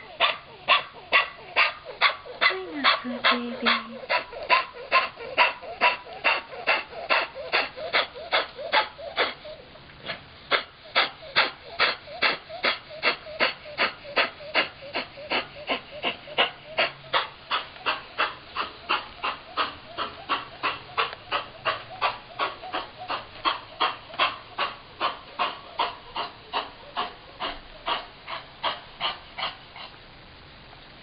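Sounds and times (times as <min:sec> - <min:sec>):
dog breathing fast and raspy: 0:00.0 - 0:30.0.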